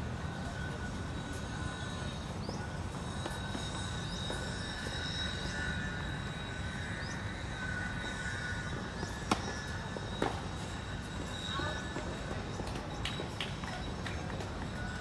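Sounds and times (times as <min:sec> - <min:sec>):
high steady whine: 0:00.0 - 0:15.0
outdoor background hum: 0:00.0 - 0:15.0.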